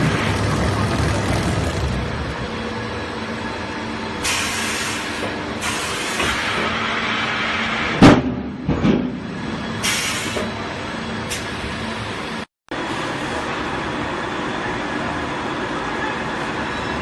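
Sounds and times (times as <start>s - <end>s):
machinery running steadily: 0.0s - 17.0s.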